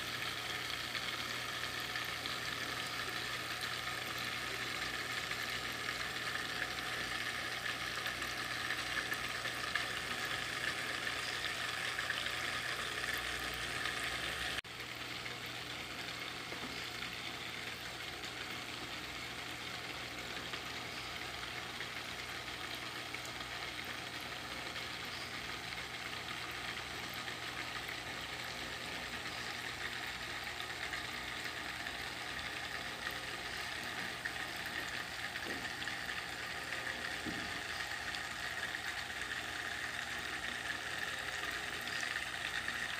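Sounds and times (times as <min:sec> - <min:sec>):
water trickling over stones: 0:00.0 - 0:42.9.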